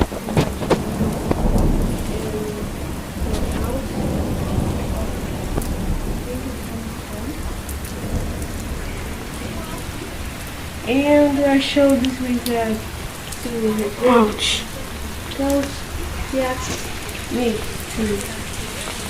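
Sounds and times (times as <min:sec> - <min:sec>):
steady rain falling: 0:00.0 - 0:19.0
thunder cracks and rumble: 0:00.0 - 0:19.0.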